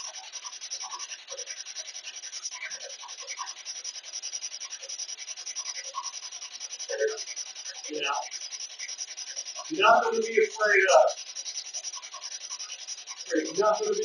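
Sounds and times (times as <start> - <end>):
choppy bursts of radio static: 0.0 - 14.0
radio sound fragments: 0.0 - 14.0.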